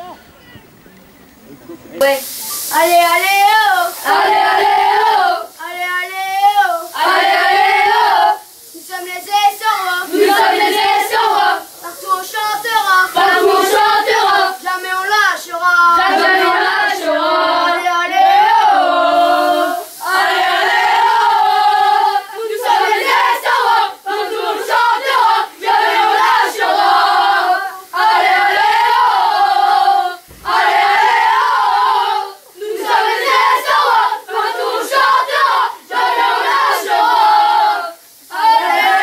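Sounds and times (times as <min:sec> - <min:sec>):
boys chanting in unison: 0:02.2 - 0:39.0.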